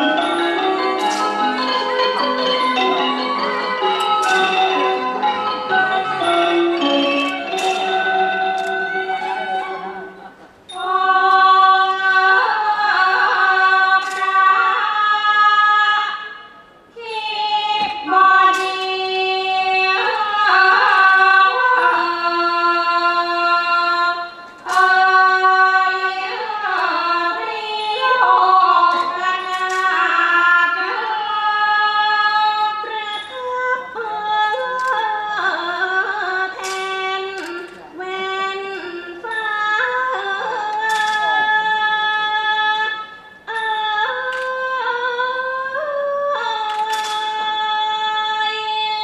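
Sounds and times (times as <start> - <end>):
woman singing wavering notes: 0.0 - 49.0.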